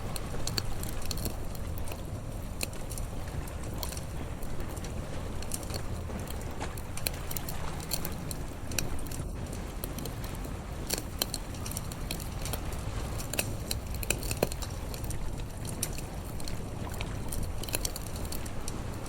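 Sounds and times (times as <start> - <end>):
campfire crackling and popping: 0.0 - 19.0
steady low rumble: 0.0 - 19.0.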